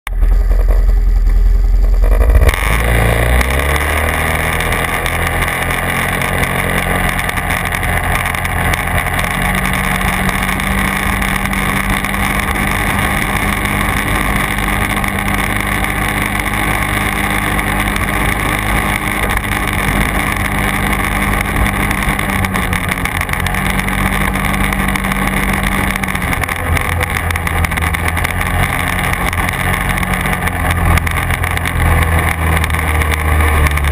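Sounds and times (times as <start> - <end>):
quad bike engine running: 0.1 - 33.9
wind and track noise: 0.1 - 33.9.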